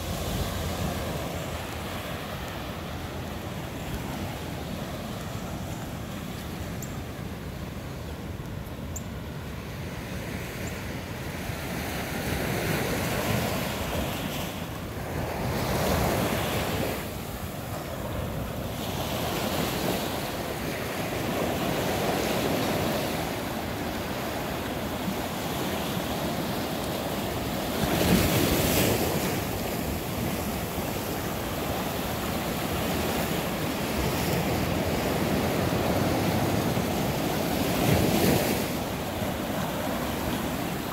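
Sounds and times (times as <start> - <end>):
ocean waves washing ashore: 0.0 - 40.9.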